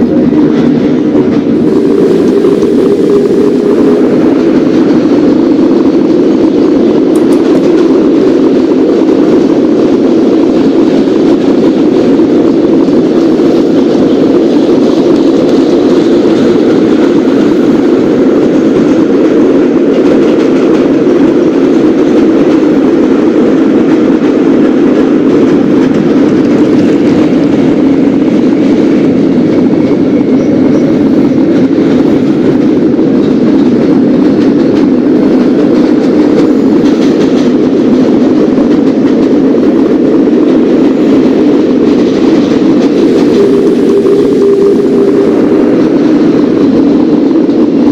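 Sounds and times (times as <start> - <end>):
train rumbling along track: 0.0 - 47.9.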